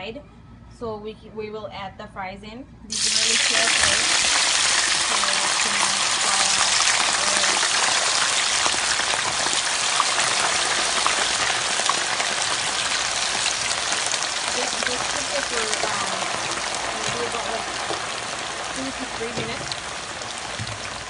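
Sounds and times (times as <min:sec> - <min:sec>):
fries sizzling in hot oil: 0:02.9 - 0:21.0
oil popping: 0:02.9 - 0:21.0.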